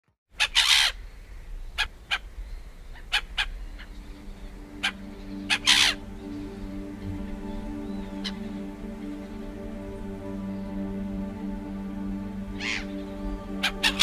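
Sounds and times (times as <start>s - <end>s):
calm music with low notes: 2.3s - 14.0s.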